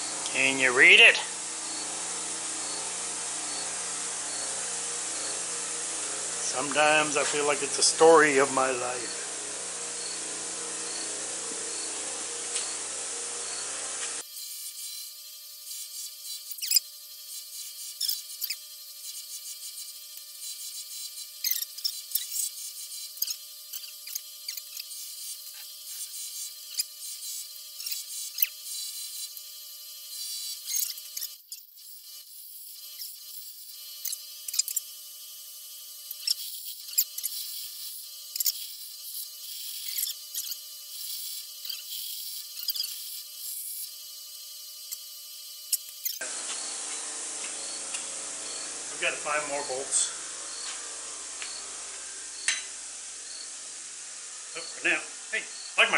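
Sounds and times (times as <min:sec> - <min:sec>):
bench grinder humming: 0:00.0 - 0:55.9.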